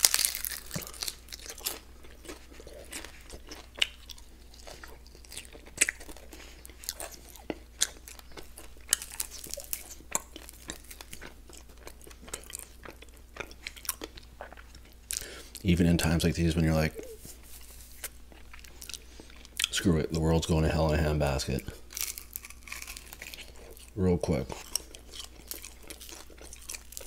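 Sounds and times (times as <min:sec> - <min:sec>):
crunchy chewing: 0:00.0 - 0:15.6, 0:17.0 - 0:19.7, 0:21.6 - 0:27.0.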